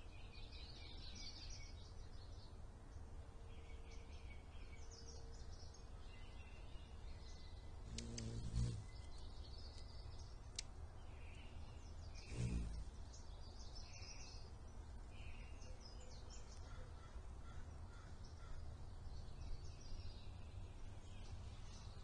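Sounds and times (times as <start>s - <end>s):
small birds chirping: 3.6s - 22.0s.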